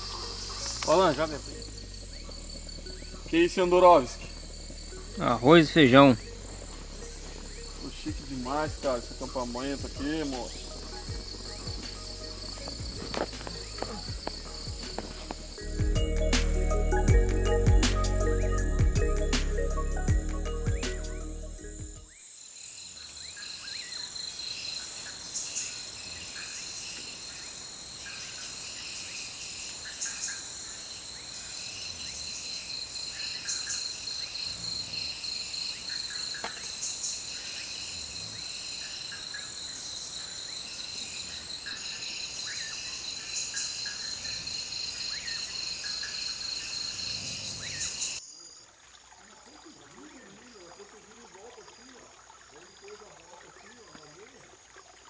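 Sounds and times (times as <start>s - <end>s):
insects trilling: 0.0s - 55.0s
pulsing insect calls: 0.0s - 55.0s.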